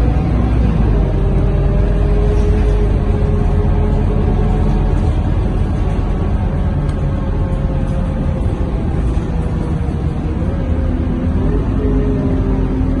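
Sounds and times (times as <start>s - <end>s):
bus diesel engine drone: 0.0s - 13.0s
road noise: 0.0s - 13.0s.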